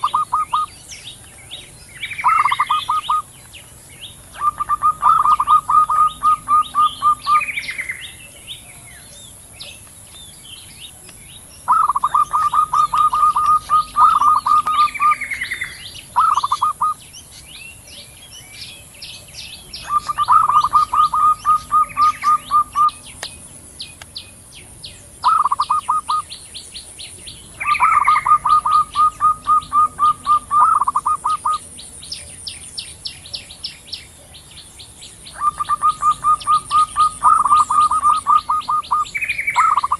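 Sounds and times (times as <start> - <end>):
doves calling rapid notes: 0.0 - 39.9
faint high chirping: 0.0 - 39.9.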